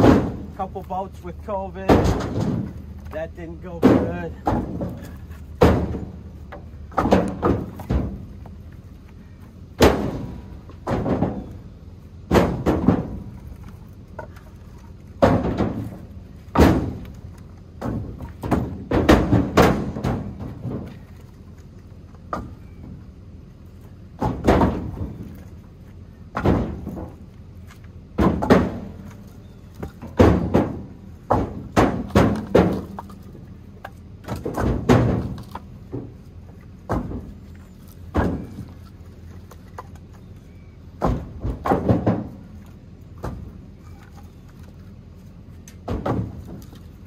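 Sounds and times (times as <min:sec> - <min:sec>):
firewood thunking on a pile: 0:00.0 - 0:23.1, 0:23.8 - 0:47.0.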